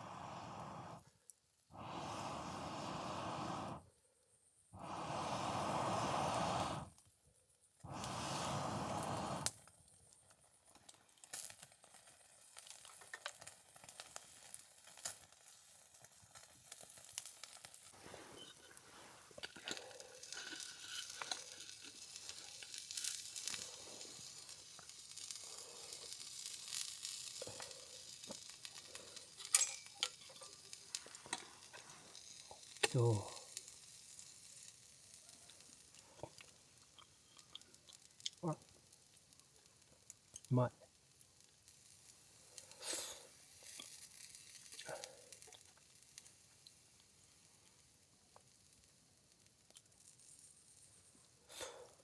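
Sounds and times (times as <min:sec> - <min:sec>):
food sizzling in a pan: 0:00.0 - 0:01.0, 0:01.8 - 0:03.8, 0:04.8 - 0:07.0, 0:07.8 - 0:52.0.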